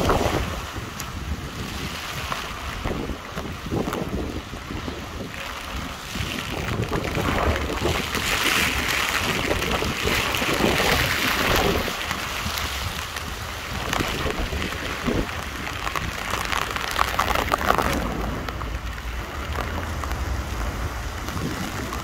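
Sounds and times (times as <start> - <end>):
heavy rain falling: 0.0 - 22.0
wind buffeting microphone: 0.0 - 22.0.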